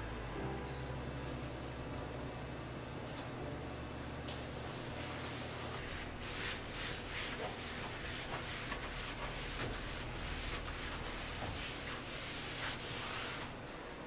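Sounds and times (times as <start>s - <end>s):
cloth wiping glass cooktop: 1.0s - 13.6s.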